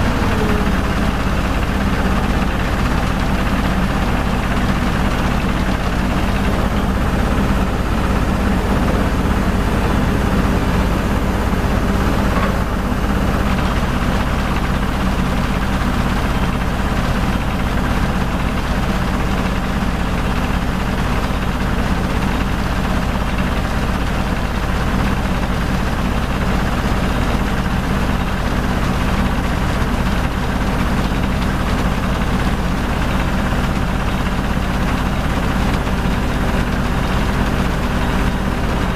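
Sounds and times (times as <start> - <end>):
drilling rig engine rumbling: 0.0 - 38.9.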